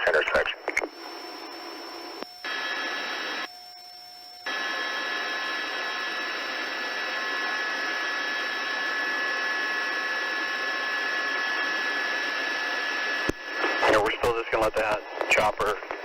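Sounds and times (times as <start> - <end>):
faint hum: 0.0 - 16.0
faint steady radio tones: 0.0 - 16.0
radio static hiss: 0.0 - 16.0.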